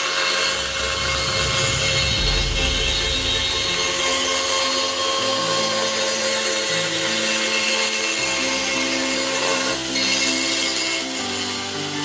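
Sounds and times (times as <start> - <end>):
band saw cutting plywood: 0.0 - 12.0.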